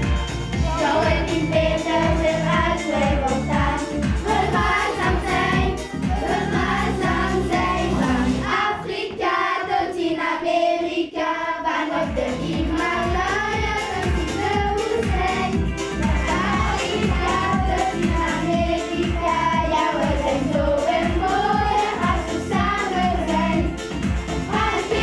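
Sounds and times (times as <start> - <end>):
instrumental accompaniment with beat: 0.0 - 8.6, 11.9 - 25.0
group of voices singing: 0.6 - 23.7, 24.4 - 25.0.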